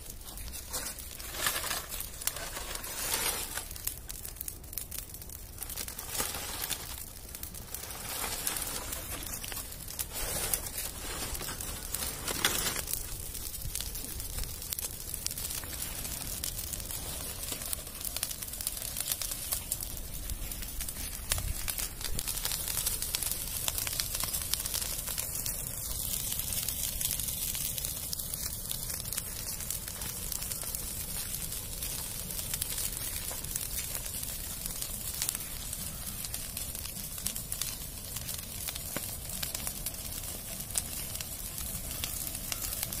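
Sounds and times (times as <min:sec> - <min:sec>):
brush fire crackling and popping: 0:00.0 - 0:43.0.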